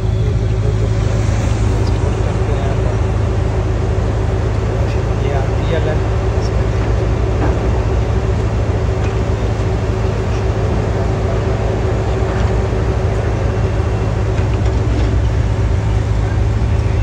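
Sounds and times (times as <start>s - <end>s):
heavy diesel machinery engine drone: 0.0s - 17.0s.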